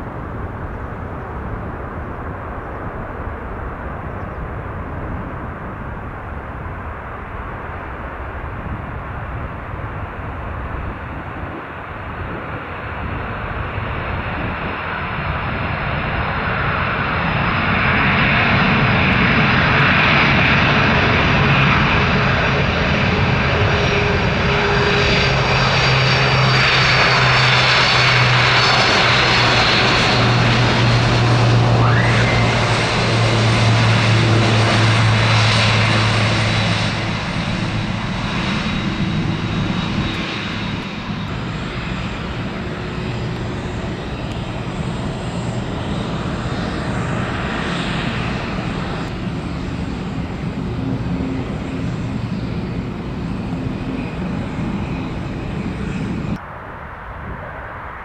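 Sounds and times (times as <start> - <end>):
jet airliner engines: 0.0 - 58.0.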